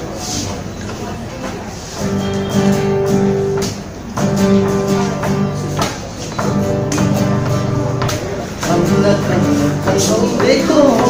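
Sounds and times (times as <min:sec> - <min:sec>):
acoustic guitar strumming chords: 0:02.0 - 0:11.0.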